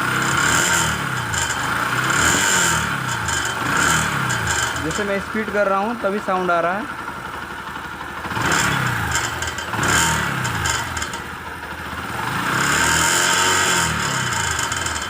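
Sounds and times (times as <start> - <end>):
motorcycle engine revving: 0.0 - 15.0
rattle from exhaust silencer: 0.2 - 15.0.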